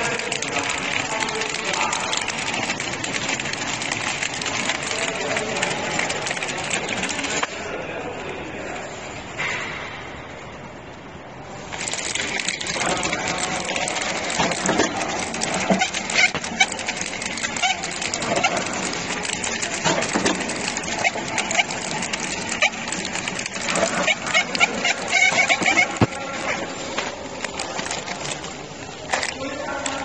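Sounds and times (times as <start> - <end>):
packing machine clattering: 0.0 - 7.4, 11.7 - 30.0
steady mechanical noise: 0.0 - 30.0.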